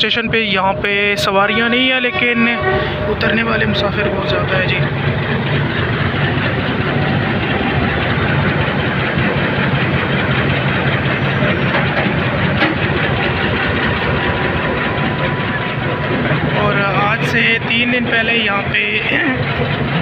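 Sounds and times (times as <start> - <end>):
diesel train engine hum: 0.0 - 20.0
train running noise: 0.0 - 20.0.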